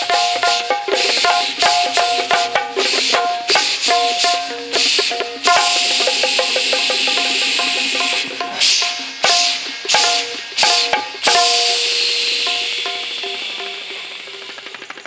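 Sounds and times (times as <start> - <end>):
mouth imitating jingling bells: 0.0 - 14.6
hand drums: 0.0 - 15.0.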